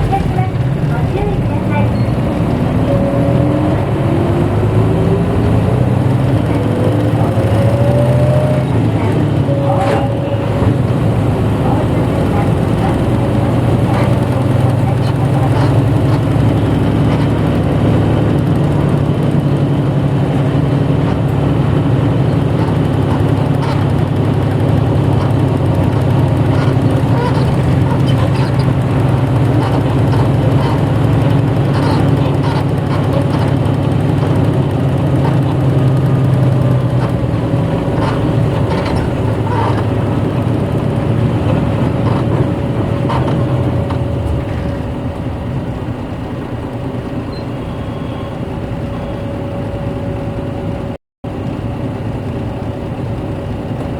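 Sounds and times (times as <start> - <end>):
bus diesel engine drone: 0.0 - 53.9.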